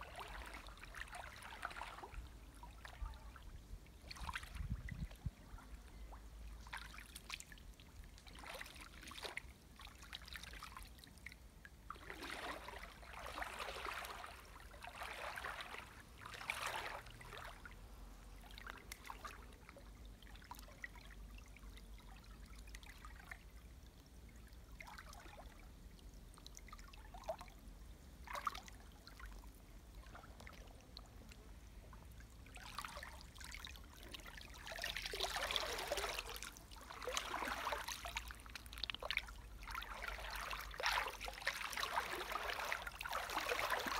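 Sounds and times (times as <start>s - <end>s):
creek water splashing: 0.0s - 11.1s, 11.8s - 21.1s, 28.2s - 43.9s.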